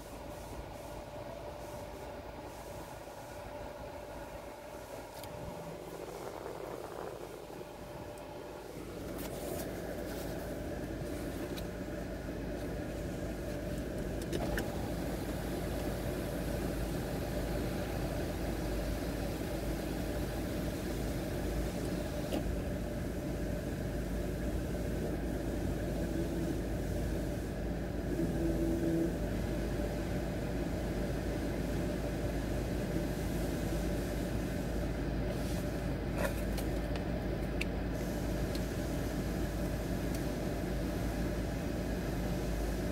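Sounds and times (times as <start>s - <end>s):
low mechanical drone with hiss: 0.0s - 42.9s.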